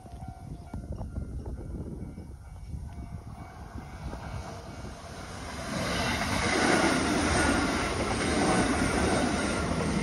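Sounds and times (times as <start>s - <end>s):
electric train passing: 0.1s - 10.0s.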